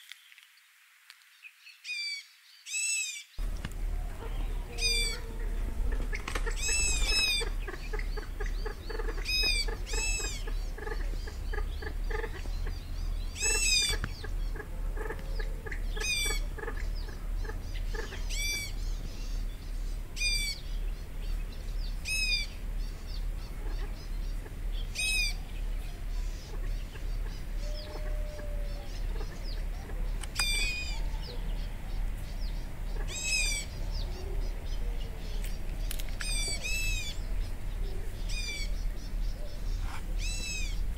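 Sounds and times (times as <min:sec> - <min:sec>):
bird calling: 0:01.8 - 0:40.9
steady low hum: 0:03.4 - 0:40.9.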